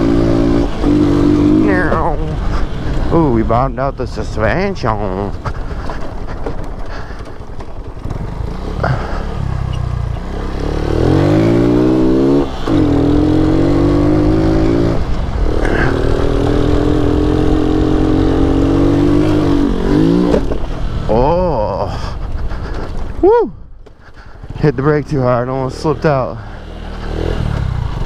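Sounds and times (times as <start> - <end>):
motorcycle engine revving: 0.0 - 23.4, 24.0 - 28.0.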